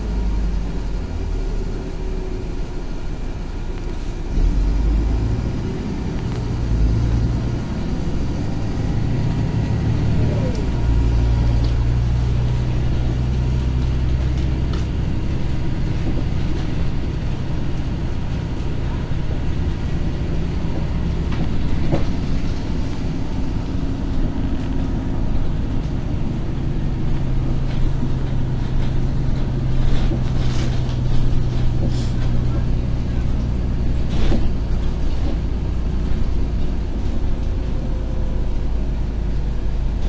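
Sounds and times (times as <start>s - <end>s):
bus engine hum: 0.0s - 40.0s
road and tyre noise: 0.0s - 40.0s.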